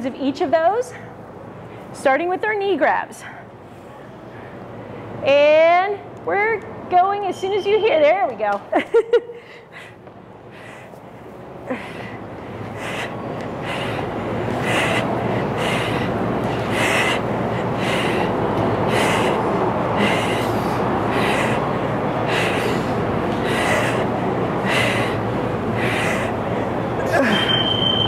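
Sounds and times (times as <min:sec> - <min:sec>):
steady rushing background noise: 0:00.0 - 0:28.0.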